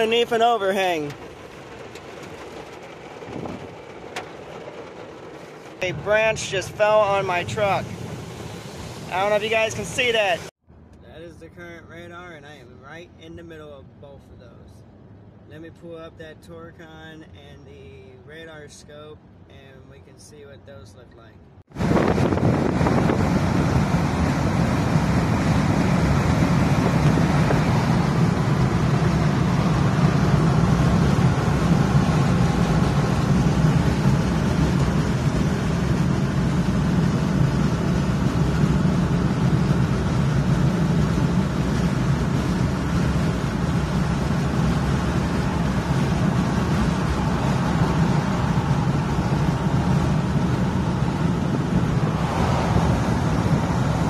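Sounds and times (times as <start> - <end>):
truck road and engine noise: 0.0 - 18.4, 19.0 - 54.0.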